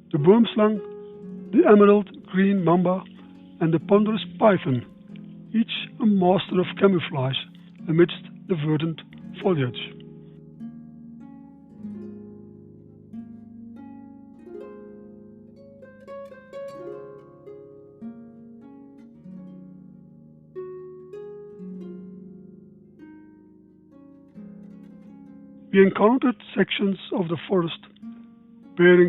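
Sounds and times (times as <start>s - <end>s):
harp-like plucked strings music: 0.0s - 29.0s.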